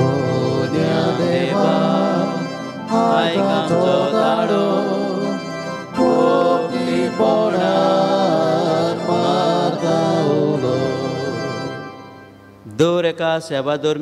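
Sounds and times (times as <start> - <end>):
voices singing: 0.0 - 11.9
organ accompaniment: 0.0 - 12.8.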